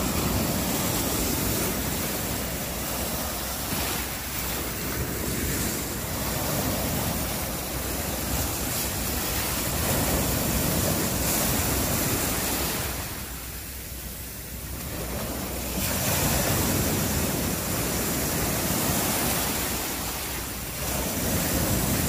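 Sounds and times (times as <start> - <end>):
waves washing up on beach: 0.0 - 22.0.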